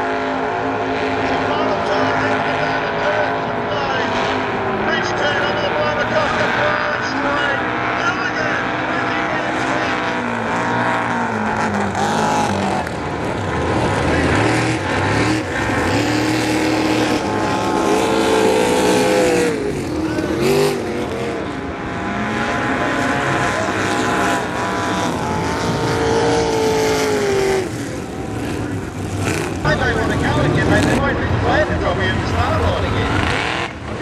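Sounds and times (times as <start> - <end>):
powerboat engines passing: 0.0 - 34.0.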